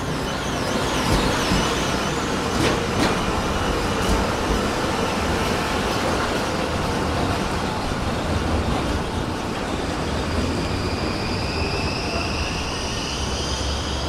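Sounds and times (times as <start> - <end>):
tram wheels rumbling: 0.0 - 14.0.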